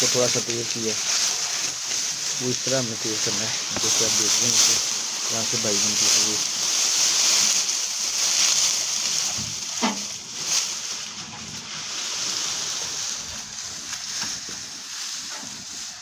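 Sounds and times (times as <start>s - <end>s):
fire cracks: 0.0s - 16.0s
furnace fire hissing: 0.0s - 16.0s.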